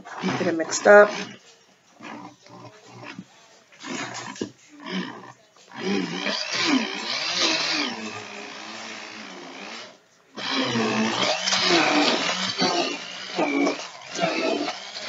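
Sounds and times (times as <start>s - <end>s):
stick blender motor churning: 0.0s - 15.0s.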